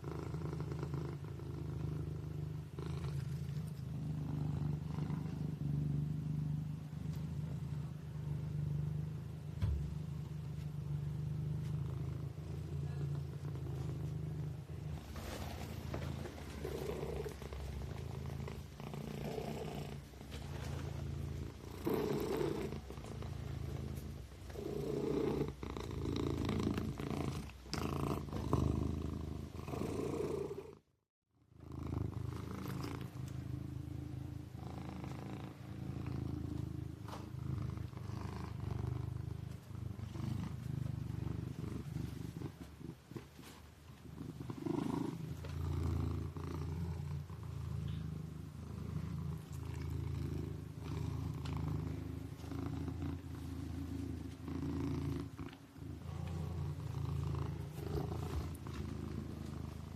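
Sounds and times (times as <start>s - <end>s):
kitten purring: 0.0s - 30.9s, 31.5s - 59.9s.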